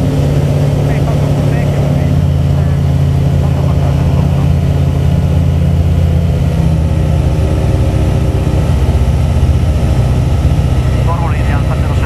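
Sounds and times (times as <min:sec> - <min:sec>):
aircraft engine drone in cockpit: 0:00.0 - 0:12.0.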